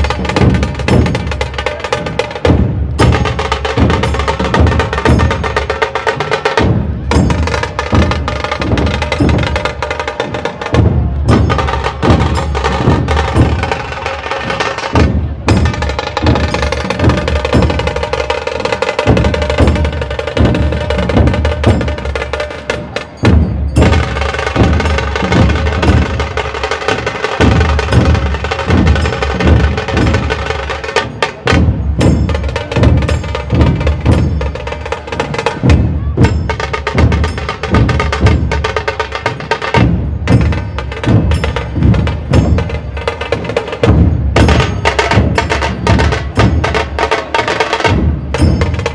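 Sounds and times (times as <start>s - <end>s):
barrel drums beaten with sticks: 0.0s - 48.9s.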